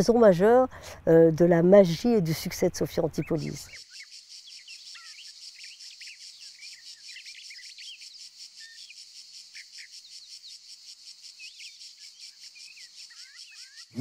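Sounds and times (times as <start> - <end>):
birds chirping: 0.0 - 14.0
insects buzzing: 0.0 - 14.0.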